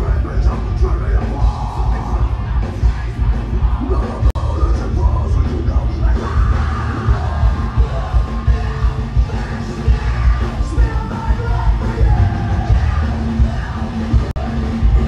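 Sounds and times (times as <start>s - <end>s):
distorted guitars: 0.0s - 15.0s
heavy low drum beat: 0.0s - 15.0s
rock vocals: 0.0s - 15.0s.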